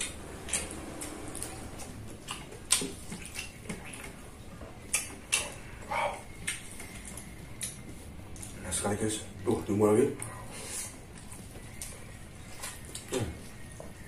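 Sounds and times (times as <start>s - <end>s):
wet chewing and lip-smacking: 0.0s - 9.5s, 10.1s - 14.0s.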